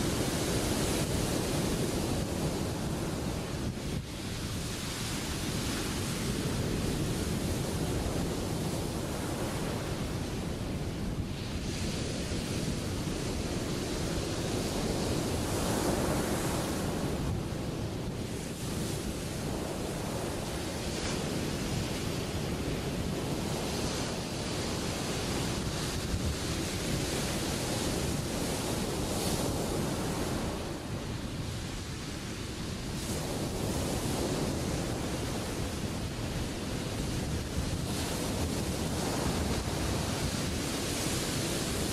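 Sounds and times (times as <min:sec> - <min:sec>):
ocean surf breaking: 0:00.0 - 0:41.9.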